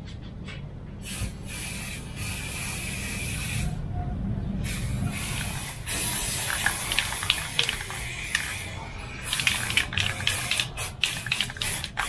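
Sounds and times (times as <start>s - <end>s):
aerosol can spraying: 1.0s - 3.8s, 4.6s - 12.0s.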